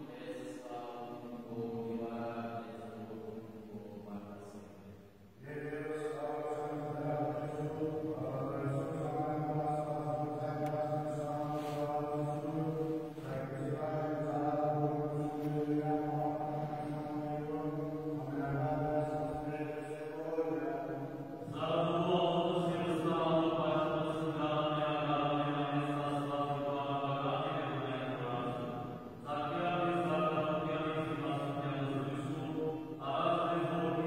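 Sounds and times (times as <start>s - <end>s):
male chanting a hymn: 0.0s - 34.0s.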